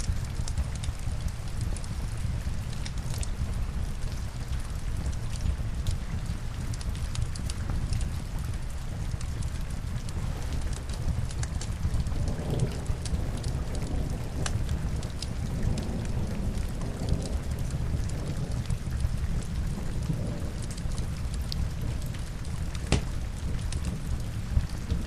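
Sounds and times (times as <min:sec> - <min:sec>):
steady heavy rain: 0:00.0 - 0:25.0
wood fire crackling and popping: 0:00.0 - 0:25.0.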